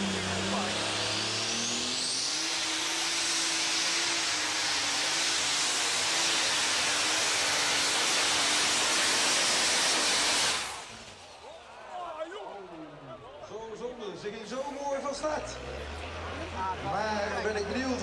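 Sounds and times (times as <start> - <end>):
tractor diesel engine roaring: 0.0 - 11.2, 14.8 - 18.0.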